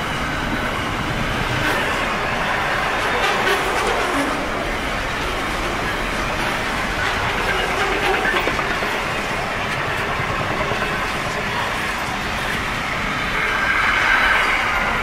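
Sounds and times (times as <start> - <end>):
freight wagons rolling on rails: 0.0 - 15.0.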